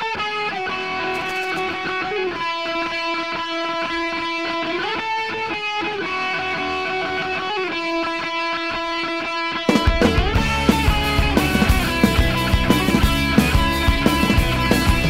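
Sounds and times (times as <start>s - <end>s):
electric guitar chords: 0.0s - 15.0s.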